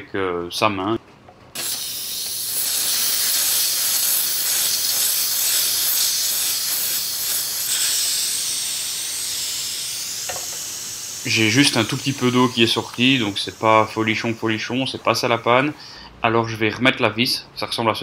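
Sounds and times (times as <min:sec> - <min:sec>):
compressed air hissing: 0:01.6 - 0:16.0.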